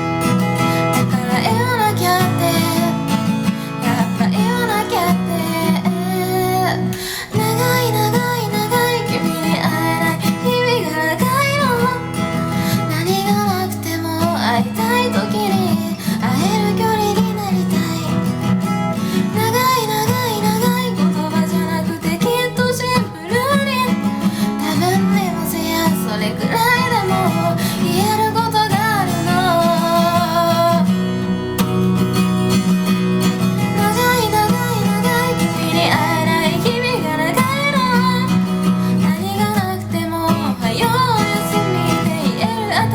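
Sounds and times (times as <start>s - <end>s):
acoustic guitar: 0.0s - 42.9s
woman singing: 0.0s - 42.9s.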